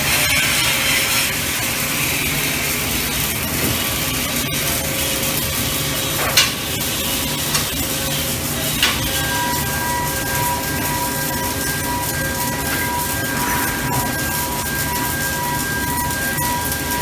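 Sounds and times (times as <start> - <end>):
low machinery hum: 0.0 - 17.0
welding hiss and crackle: 0.0 - 17.0.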